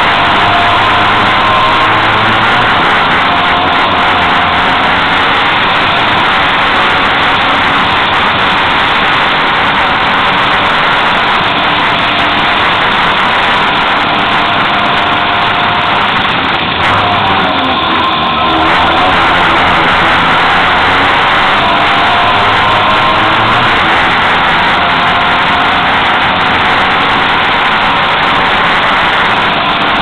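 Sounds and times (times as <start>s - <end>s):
car engine running: 0.0s - 30.0s
road and tyre noise: 0.0s - 30.0s.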